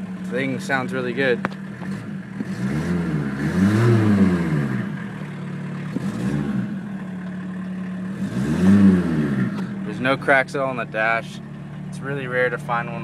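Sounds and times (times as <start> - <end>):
diesel engine idling and revving: 0.0 - 13.0.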